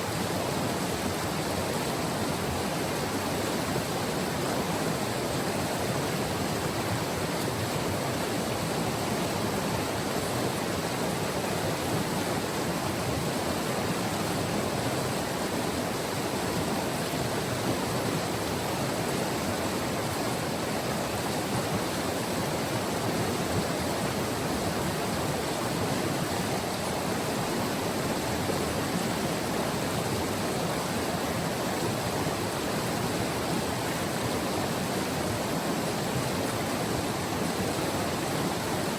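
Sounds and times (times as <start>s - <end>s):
river rushing over its bed: 0.0s - 38.9s.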